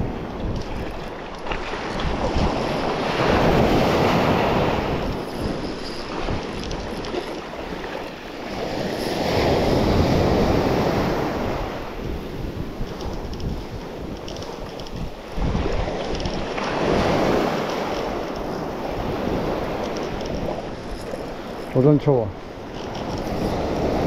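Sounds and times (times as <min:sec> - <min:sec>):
wind buffeting microphone: 0:00.0 - 0:24.0
surf breaking on beach: 0:01.2 - 0:24.0.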